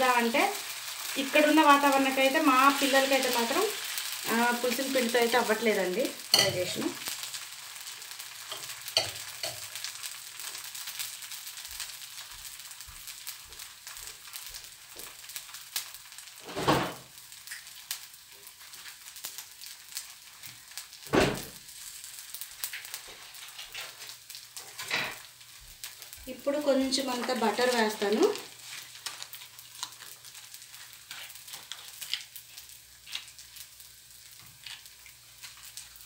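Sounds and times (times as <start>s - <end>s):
batter sizzling on a hot pan: 0.0s - 36.0s.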